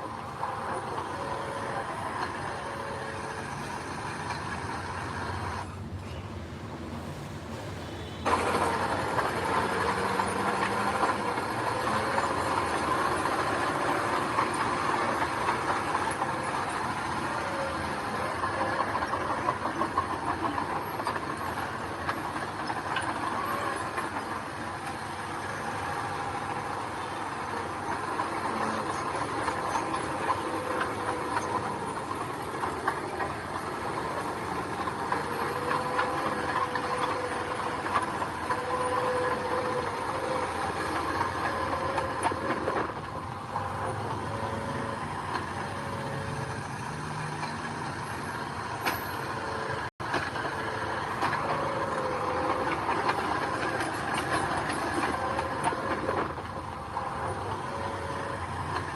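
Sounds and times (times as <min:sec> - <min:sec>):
heavy earthmoving machinery running: 0:00.0 - 0:58.9.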